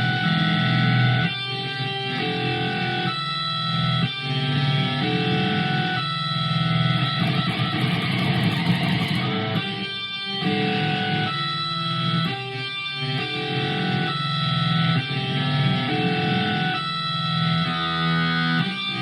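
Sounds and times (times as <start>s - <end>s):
electric guitar with wah-wah: 0.0s - 19.0s.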